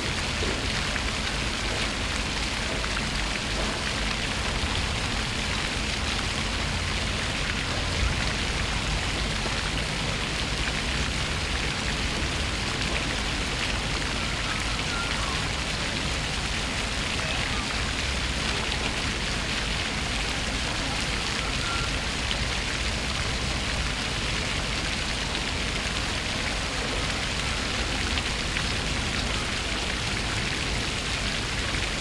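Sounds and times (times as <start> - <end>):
fountain water splashing: 0.0 - 32.0.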